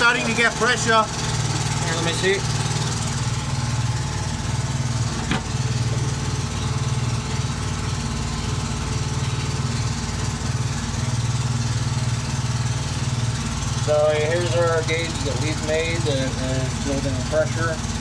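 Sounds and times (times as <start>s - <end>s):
air compressor humming: 0.0s - 18.0s.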